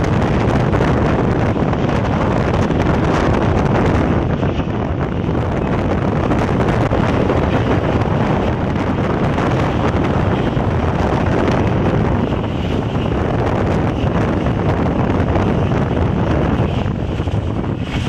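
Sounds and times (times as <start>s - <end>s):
train rumbling on track: 0.0s - 18.0s
wind buffeting microphone: 0.0s - 18.0s.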